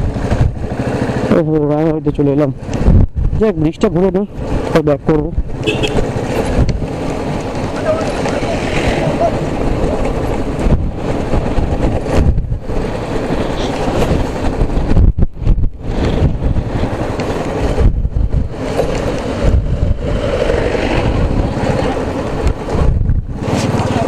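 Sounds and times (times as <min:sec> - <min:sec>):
motorcycle engine running: 0:00.0 - 0:03.3, 0:05.4 - 0:24.0
wind buffeting microphone: 0:00.0 - 0:24.0.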